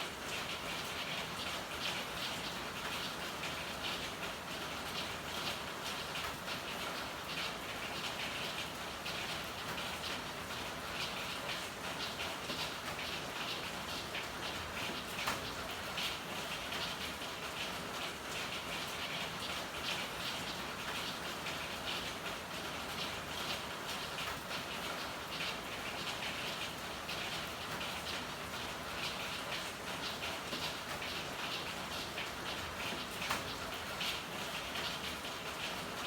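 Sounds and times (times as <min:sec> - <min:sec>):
rain pattering on hard surfaces: 0:00.0 - 0:36.0.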